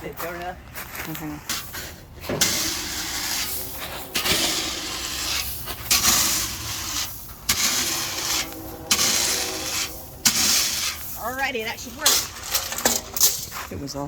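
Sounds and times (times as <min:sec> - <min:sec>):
gravel scraping: 0:00.0 - 0:14.0.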